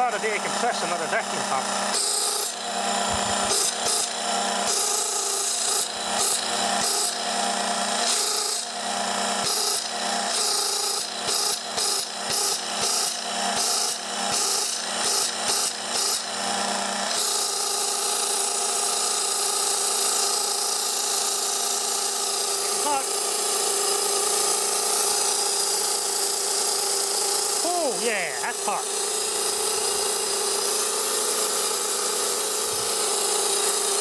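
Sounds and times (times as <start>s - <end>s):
compressor motor humming: 0.0s - 34.0s.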